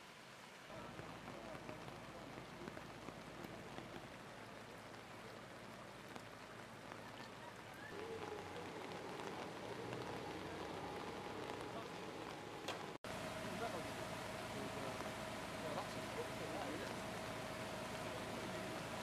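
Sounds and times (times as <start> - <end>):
steady rain on street: 0.0 - 19.0.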